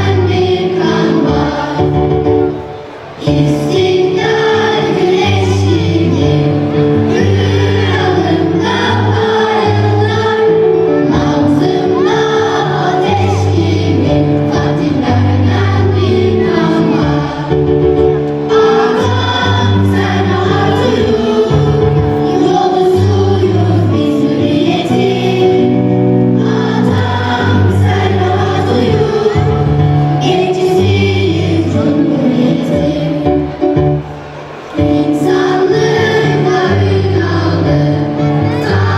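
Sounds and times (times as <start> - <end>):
choir singing: 0.0 - 38.9
instrumental accompaniment: 0.0 - 38.9.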